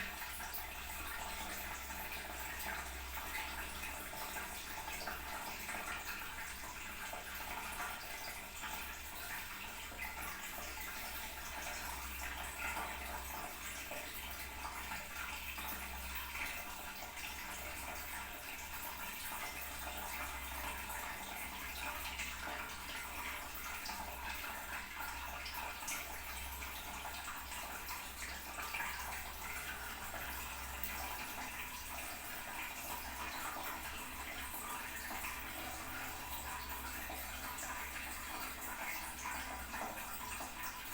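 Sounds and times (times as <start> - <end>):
water running into toilet tank: 0.0 - 40.9.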